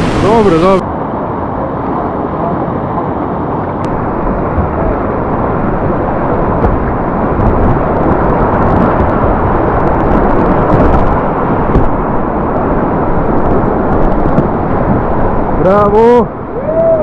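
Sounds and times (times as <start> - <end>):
whitewater rapids rushing: 0.0 - 2.7, 3.9 - 17.0.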